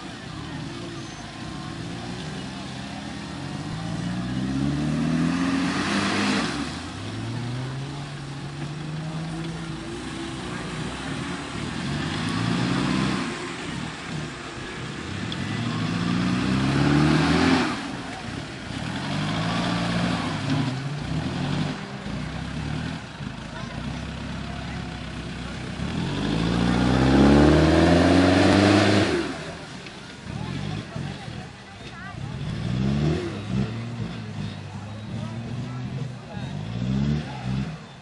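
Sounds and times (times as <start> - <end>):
vehicle engine revving hard: 0.0 - 38.0.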